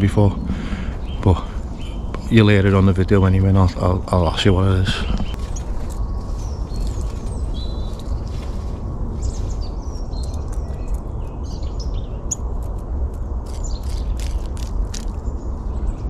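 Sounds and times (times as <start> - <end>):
songbirds chirping and whistling: 0.0 - 12.5, 13.2 - 16.0
steady low rumble: 0.0 - 16.0.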